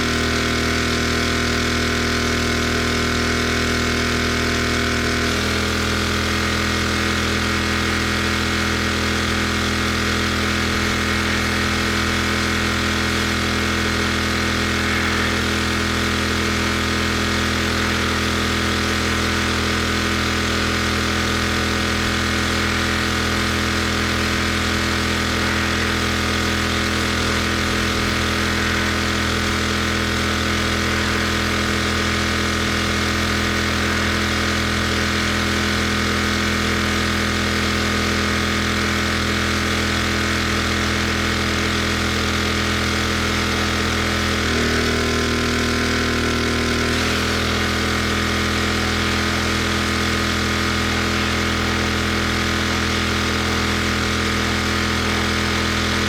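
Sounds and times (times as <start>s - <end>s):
gas engine running: 0.0s - 56.0s.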